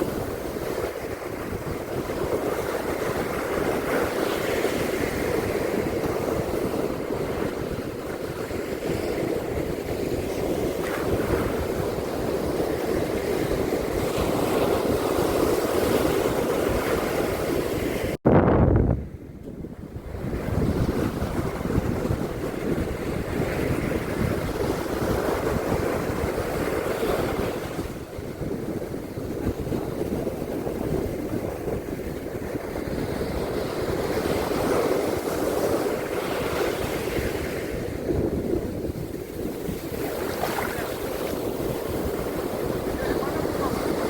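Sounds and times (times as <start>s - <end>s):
sea waves washing onto beach: 0.0s - 18.2s, 20.0s - 44.0s
wind rumbling on microphone: 0.0s - 44.0s.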